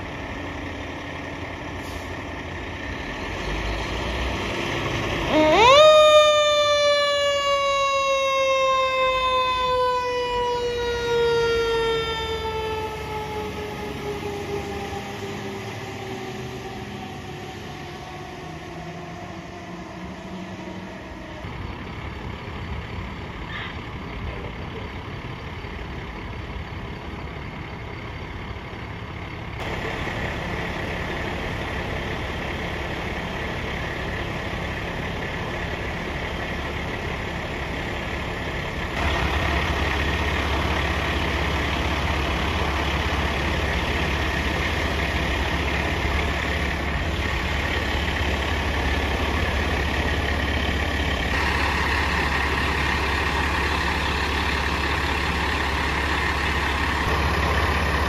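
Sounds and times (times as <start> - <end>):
fire engine siren wailing: 0.0 - 58.0
truck engine running: 0.0 - 58.0.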